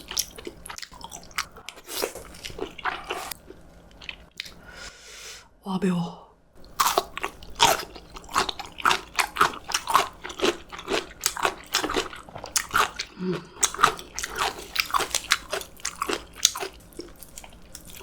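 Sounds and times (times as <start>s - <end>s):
crunchy chewing: 0.0s - 4.6s, 6.6s - 18.0s.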